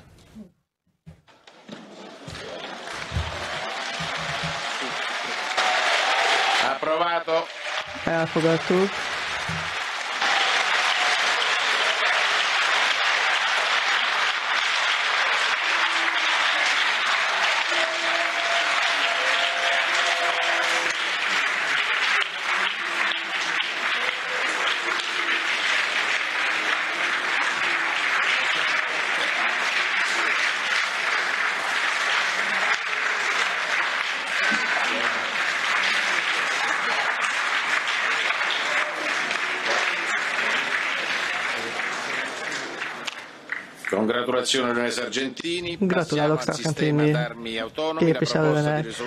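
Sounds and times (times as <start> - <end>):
crowd applauding: 1.3 - 47.3, 47.9 - 49.0.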